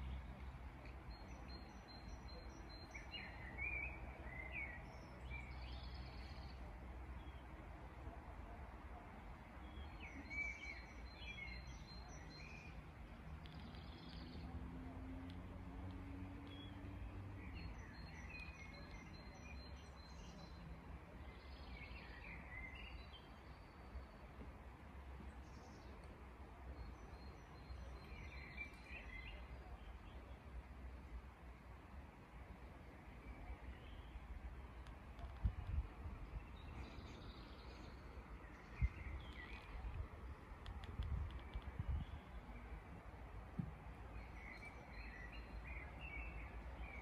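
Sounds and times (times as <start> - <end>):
faint birdsong: 0.0 - 47.0.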